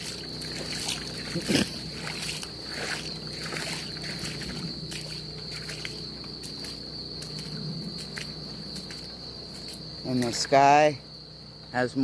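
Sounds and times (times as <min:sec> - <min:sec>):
floodwater sloshing: 0:00.0 - 0:10.3
faint low hum: 0:00.0 - 0:12.0
high-pitched insect chorus trilling: 0:00.0 - 0:12.0.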